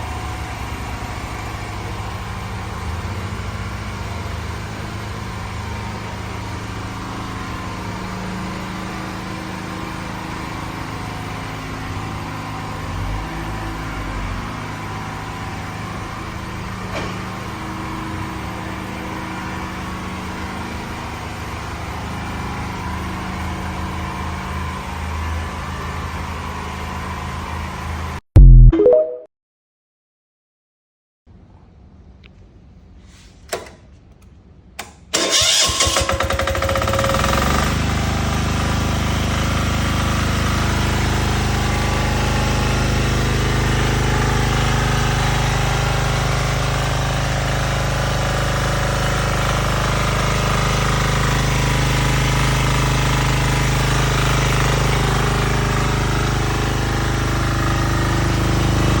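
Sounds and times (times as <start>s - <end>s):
diesel engine starting and running: 0.0s - 28.7s, 34.8s - 59.0s.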